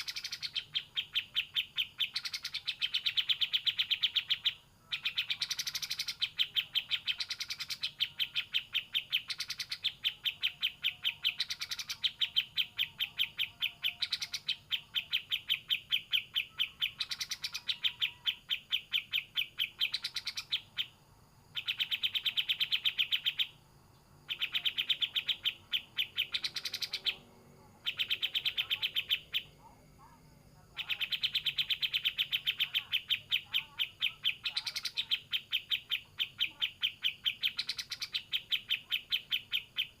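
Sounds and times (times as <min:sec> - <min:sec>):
bird singing rattling chirps: 0:00.0 - 0:40.0.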